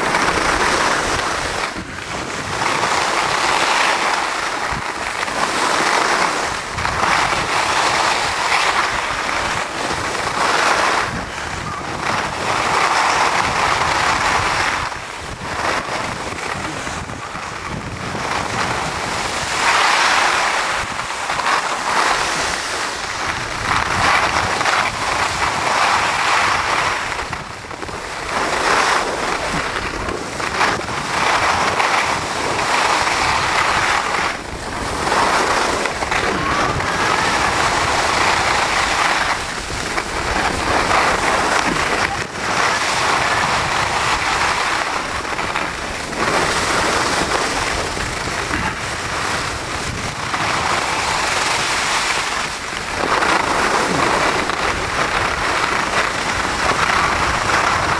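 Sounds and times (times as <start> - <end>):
skis scraping over snow: 0.0 - 57.9
wind on microphone: 0.0 - 57.9.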